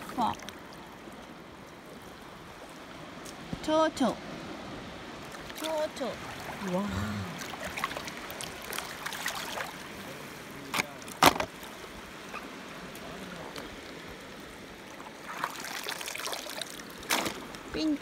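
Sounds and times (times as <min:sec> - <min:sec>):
sea water washing over sand: 0:00.0 - 0:18.0.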